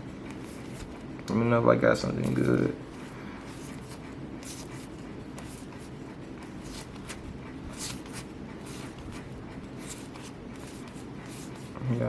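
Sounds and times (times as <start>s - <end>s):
low room hum: 0.0s - 12.0s
cards sliding over cards: 0.2s - 1.1s, 2.2s - 11.8s.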